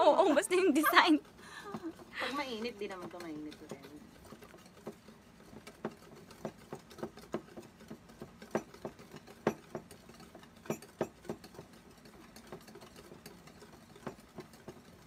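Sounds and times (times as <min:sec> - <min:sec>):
utensil clinking against ceramic bowl: 0:01.2 - 0:15.0.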